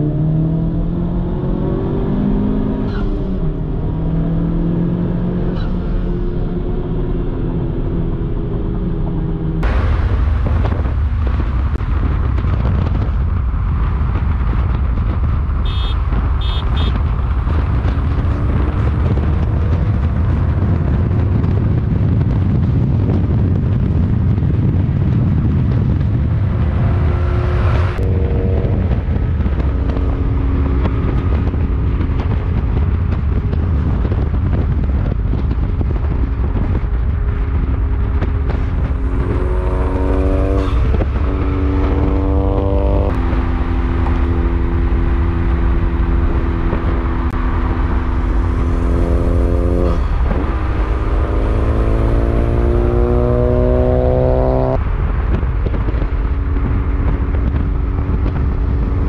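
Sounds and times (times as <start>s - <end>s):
car engine drone: 0.0s - 59.0s
wind rush and road noise: 0.0s - 59.0s.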